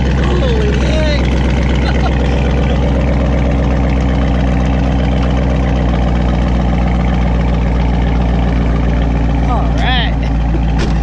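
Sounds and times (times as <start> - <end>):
loud engine idling: 0.0 - 11.0.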